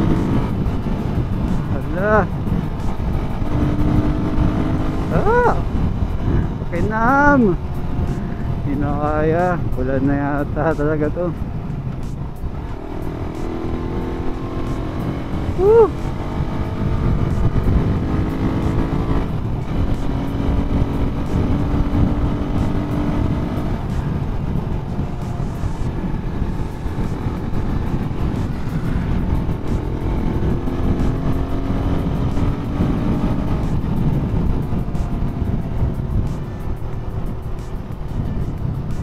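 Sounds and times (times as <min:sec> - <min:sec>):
motorcycle engine cruising: 0:00.0 - 0:39.0
wind and road noise: 0:00.0 - 0:39.0.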